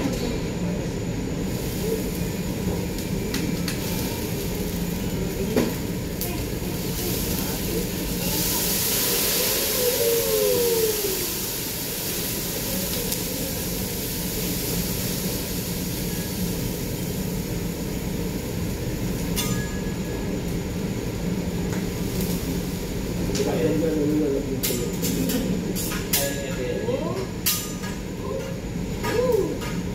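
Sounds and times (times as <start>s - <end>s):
food sizzling on griddle: 1.3s - 26.4s.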